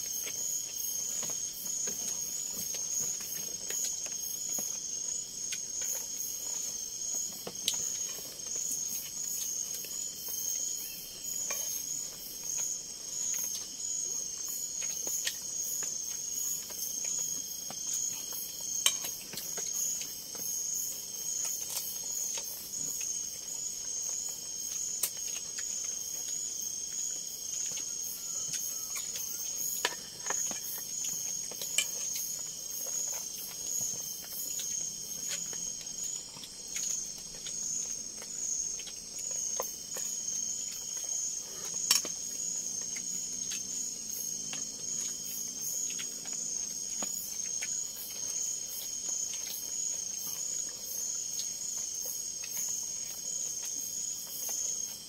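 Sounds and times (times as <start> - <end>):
insects pulsing trill: 0.0 - 55.0.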